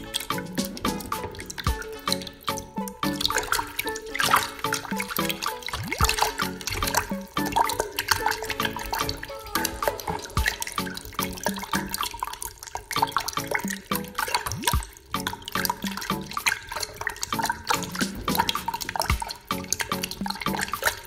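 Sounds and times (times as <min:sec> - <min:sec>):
fish splashing and gulping: 0:00.0 - 0:21.0.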